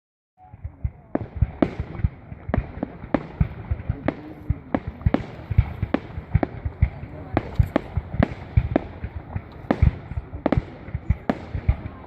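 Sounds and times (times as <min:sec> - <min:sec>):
deep fireworks booms: 0:00.4 - 0:12.0
fireworks bangs: 0:00.4 - 0:12.0.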